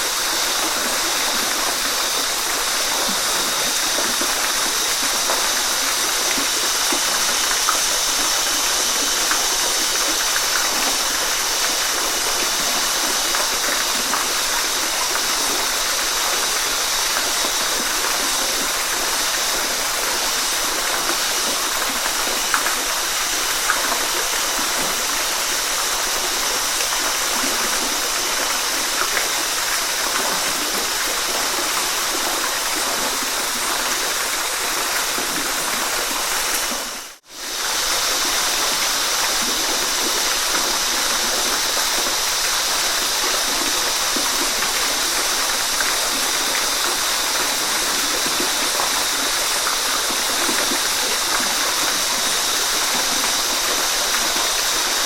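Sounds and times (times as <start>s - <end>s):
waterfall roar: 0.0s - 55.0s.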